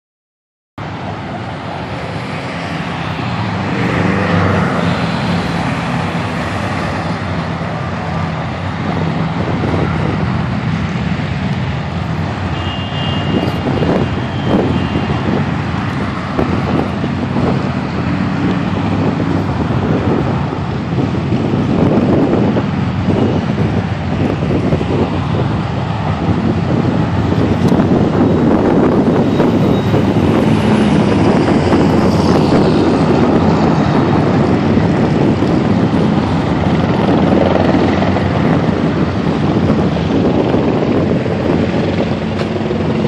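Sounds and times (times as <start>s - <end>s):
cars driving past: 0.8s - 43.0s
wind buffeting microphone: 0.8s - 43.0s.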